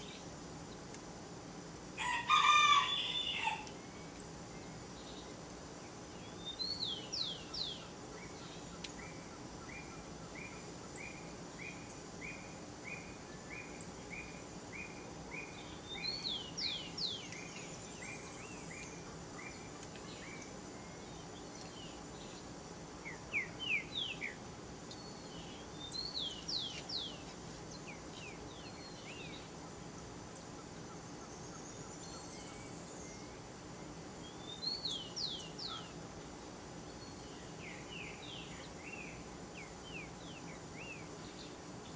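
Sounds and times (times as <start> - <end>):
low background noise: 0.0 - 41.9.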